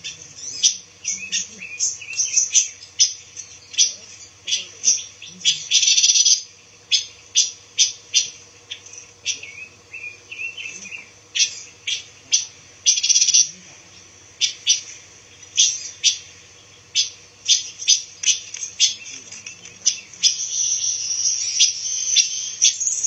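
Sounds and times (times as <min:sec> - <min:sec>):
bird twittering: 0:00.0 - 0:23.0
faint low hum: 0:00.0 - 0:23.0
songbirds chirping: 0:00.0 - 0:23.0.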